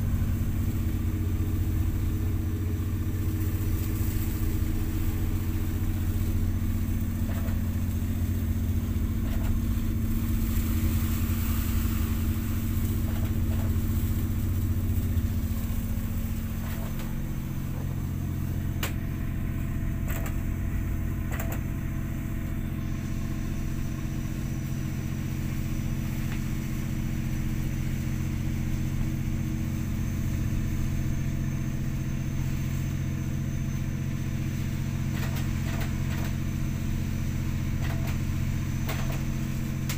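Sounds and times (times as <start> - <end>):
ship engine humming: 0.0 - 39.9.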